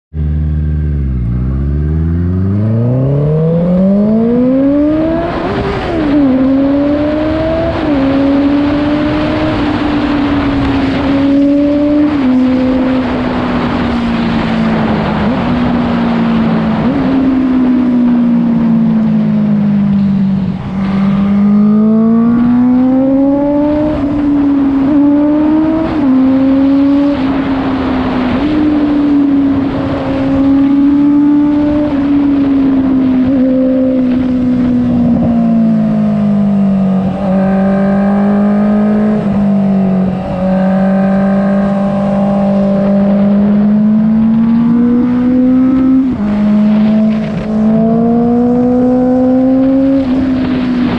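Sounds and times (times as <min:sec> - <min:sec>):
loud motorcycle engine revving: 0:00.2 - 0:17.8, 0:20.5 - 0:50.9.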